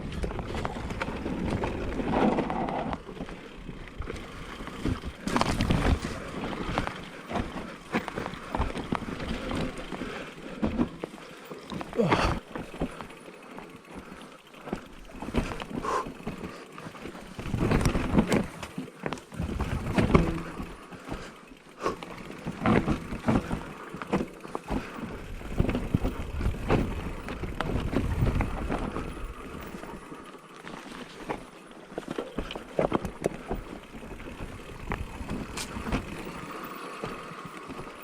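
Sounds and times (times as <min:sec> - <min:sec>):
bike frame and chain rattling: 0:00.0 - 0:38.0
bike tyres rumbling over dirt: 0:00.0 - 0:38.0.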